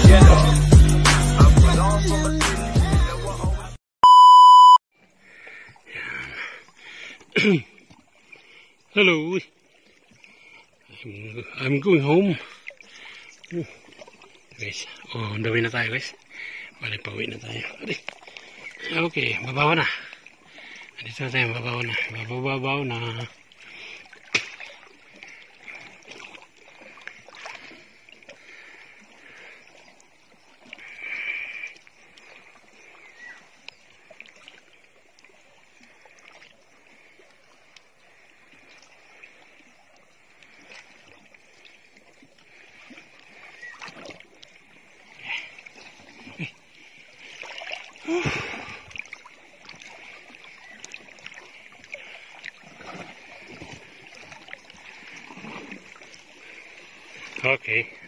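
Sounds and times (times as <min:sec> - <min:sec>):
water splashing around wading person: 0:05.1 - 0:58.0.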